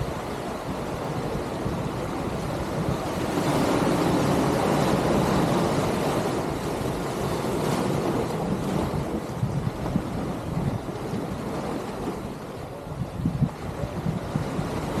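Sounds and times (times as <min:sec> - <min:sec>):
sea waves washing onto shore: 0:00.0 - 0:15.0
wind blowing across microphone: 0:00.0 - 0:15.0.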